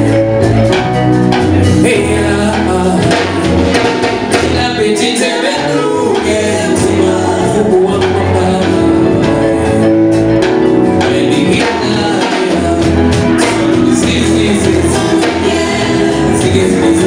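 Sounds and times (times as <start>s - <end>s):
bass line: 0.0s - 17.0s
singers singing together: 1.8s - 17.0s.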